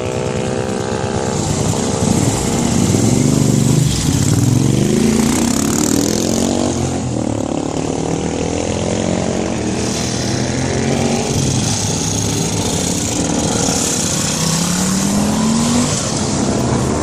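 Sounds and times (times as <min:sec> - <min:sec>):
motorcycle engine revving up: 0:00.0 - 0:17.0
motorcycle engines running: 0:00.0 - 0:17.0.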